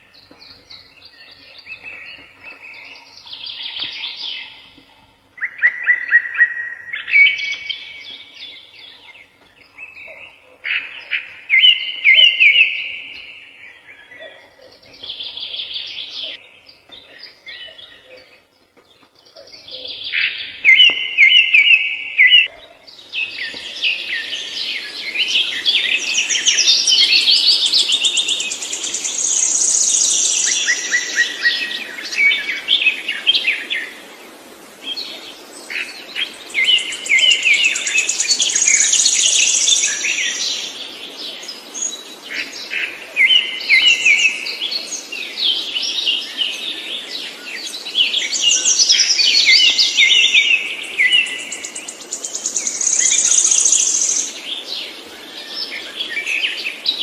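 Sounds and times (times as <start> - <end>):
songbird trilling and warbling: 0.0 - 33.9, 35.4 - 57.0.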